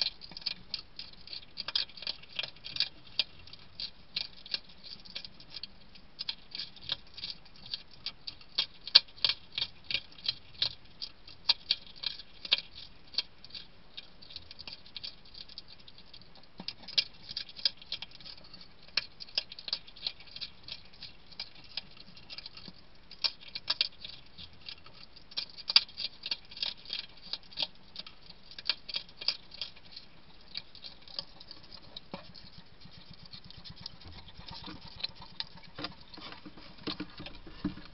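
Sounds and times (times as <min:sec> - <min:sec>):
hedgehog chewing and smacking: 0:00.0 - 0:37.9.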